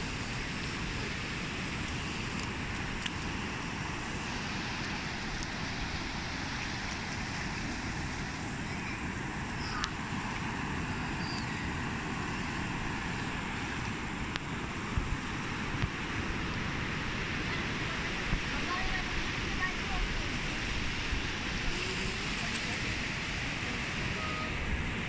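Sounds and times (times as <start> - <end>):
small waves washing on sand: 0.0 - 25.0.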